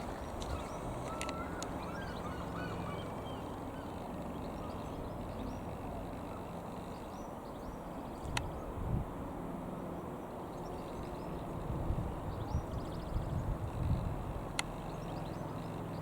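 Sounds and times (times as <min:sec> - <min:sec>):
birds chirping: 0:00.0 - 0:08.8, 0:10.2 - 0:16.0.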